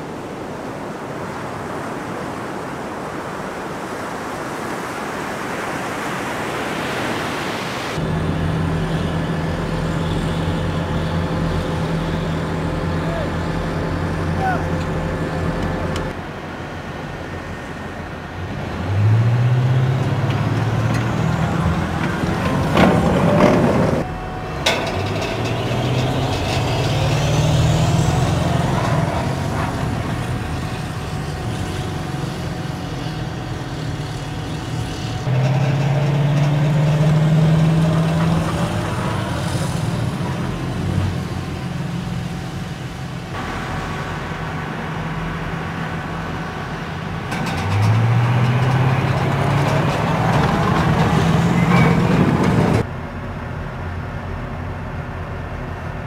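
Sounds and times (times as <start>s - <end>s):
diesel engines revving: 8.0s - 56.0s.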